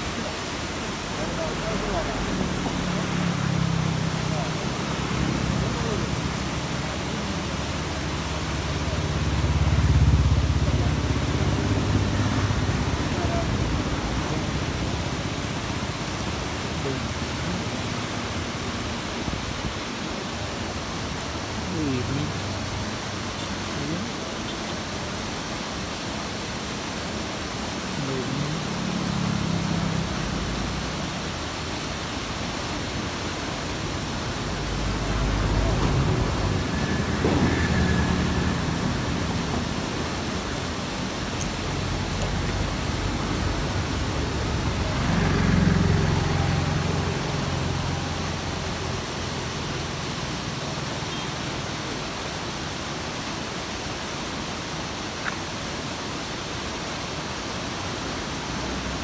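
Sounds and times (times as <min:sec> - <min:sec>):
steady rushing noise: 0:00.0 - 0:51.0
vehicles crossing bridge rumble: 0:00.0 - 0:53.8, 0:56.4 - 0:59.0.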